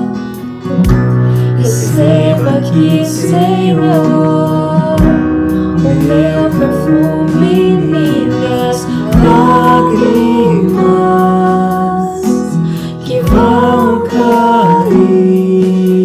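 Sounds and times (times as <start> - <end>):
strummed acoustic guitar: 0.0 - 16.0
person singing long gliding notes: 1.5 - 16.0.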